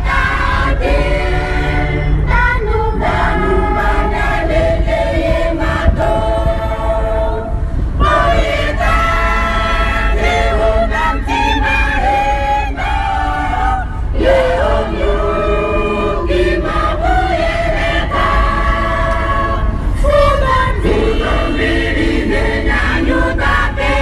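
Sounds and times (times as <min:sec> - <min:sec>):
choir singing: 0:00.0 - 0:24.0
steady low rumble: 0:00.0 - 0:24.0.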